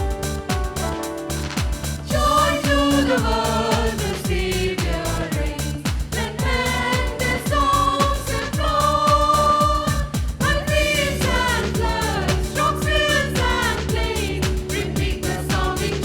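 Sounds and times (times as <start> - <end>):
drum and bass beat: 0.0 - 16.0
person singing a melody: 2.1 - 16.0.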